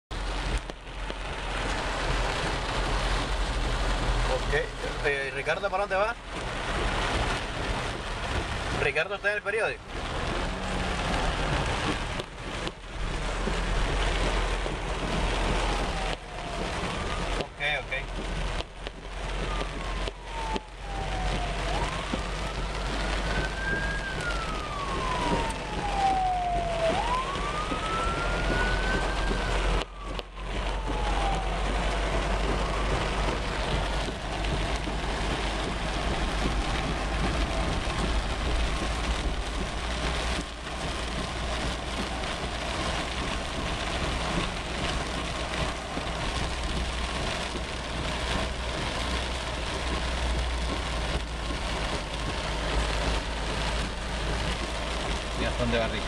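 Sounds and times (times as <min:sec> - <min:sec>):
car driving on wet streets: 0:00.1 - 0:56.0
heavy rain hiss: 0:00.1 - 0:56.0
low engine rumble: 0:00.1 - 0:56.0
emergency siren wailing: 0:00.2 - 0:56.0.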